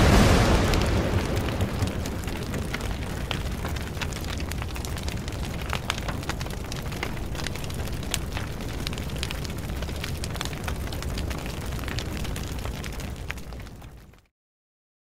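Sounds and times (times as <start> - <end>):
fire crackling and popping: 0.0 - 14.3.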